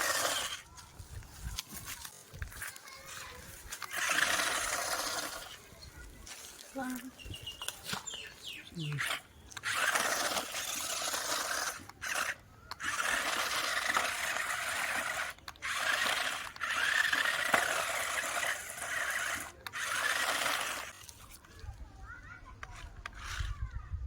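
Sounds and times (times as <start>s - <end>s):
toy car motors whirring: 0.0s - 24.0s.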